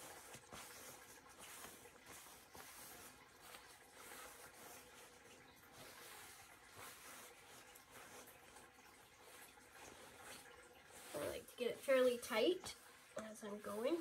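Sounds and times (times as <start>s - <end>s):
fabric rustling on carpet: 0.0s - 14.0s.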